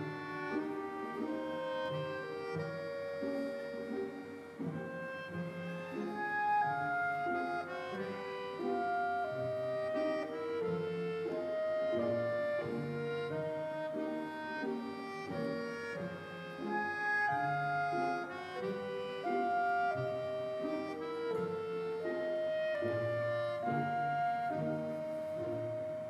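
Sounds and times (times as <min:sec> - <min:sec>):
instrumental background music: 0:00.0 - 0:26.0.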